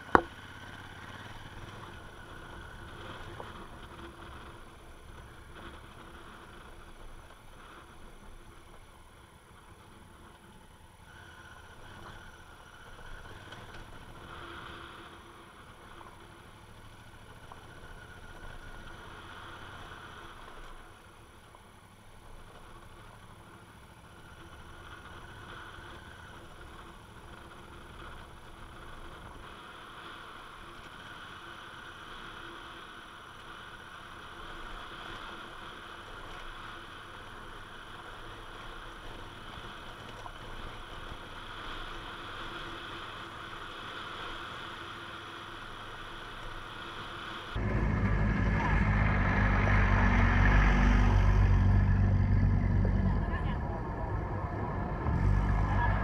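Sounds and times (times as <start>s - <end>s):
motorcycle engine running: 0.0s - 33.1s, 33.9s - 56.0s.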